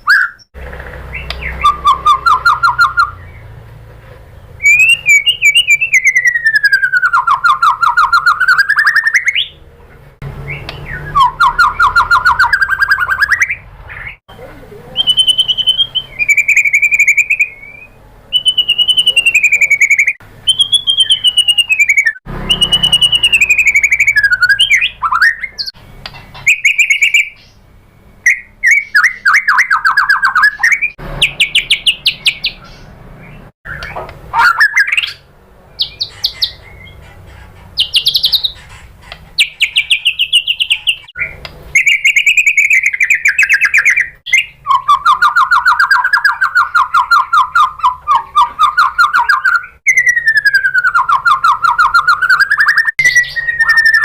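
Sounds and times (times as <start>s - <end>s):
bird singing varied phrases: 0.0s - 54.0s.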